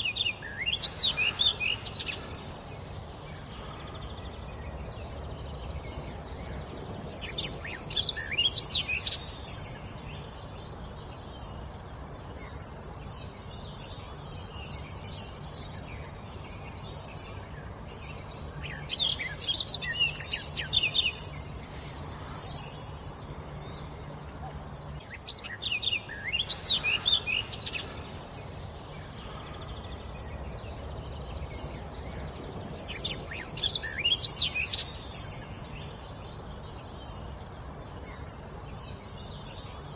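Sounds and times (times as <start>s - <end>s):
low background hum: 0.0s - 39.9s
songbird singing: 0.0s - 39.9s.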